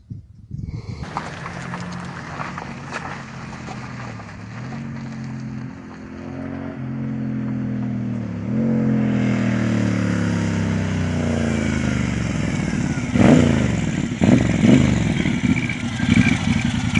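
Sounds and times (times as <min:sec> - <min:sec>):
motorcycle engine approaching: 0:00.6 - 0:16.9.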